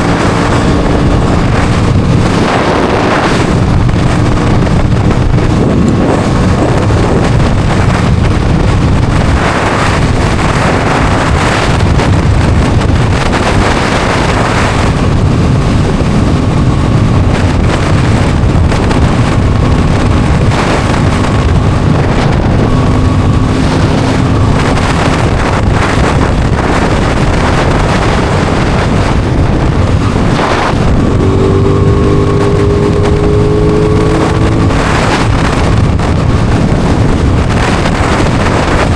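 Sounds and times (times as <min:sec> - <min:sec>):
motorcycle engine: 0:00.0 - 0:38.9
wind blasting over microphone: 0:00.0 - 0:38.9.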